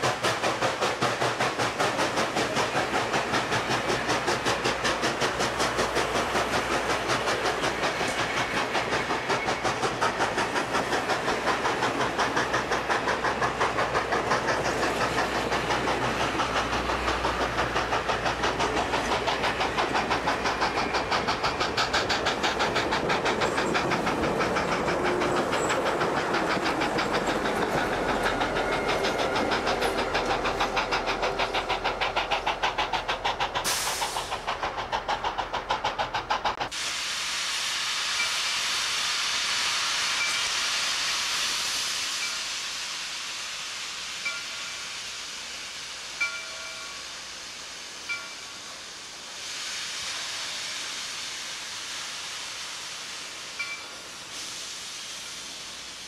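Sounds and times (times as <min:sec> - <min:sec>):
steady hiss: 0:00.0 - 0:56.0
train wheels clicking over rail joints: 0:00.0 - 0:56.0.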